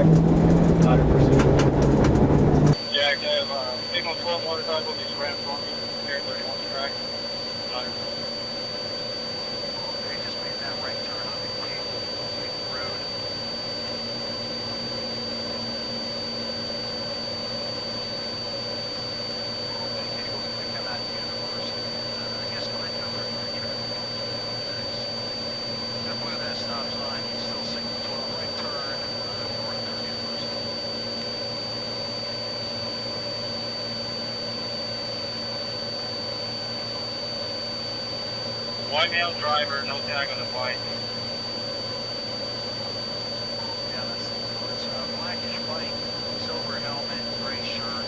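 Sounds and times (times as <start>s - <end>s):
aircraft engine drone: 0.0s - 48.0s
helicopter turbine and rotors: 0.0s - 48.0s
thin high whine: 0.0s - 48.0s.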